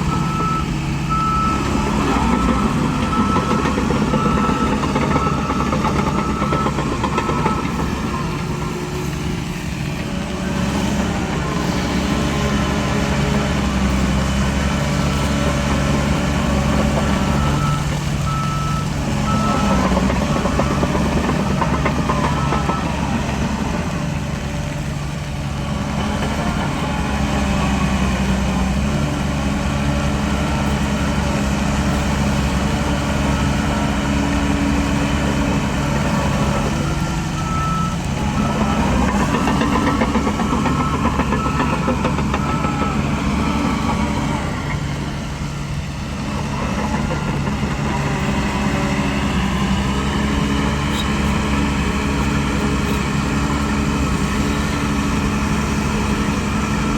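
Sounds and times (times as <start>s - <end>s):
heavy diesel engine under load: 0.0s - 56.9s.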